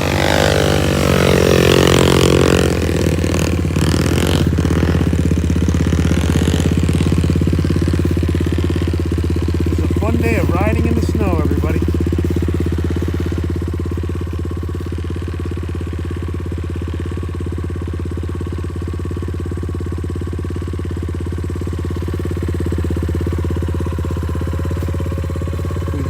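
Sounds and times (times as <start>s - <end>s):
small motorcycle engine idling: 0.0s - 26.0s.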